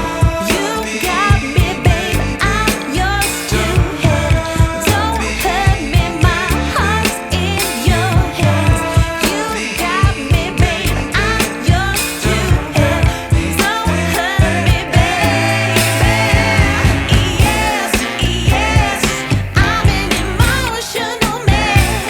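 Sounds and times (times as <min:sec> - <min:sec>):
pop song with woman singing: 0:00.0 - 0:22.0.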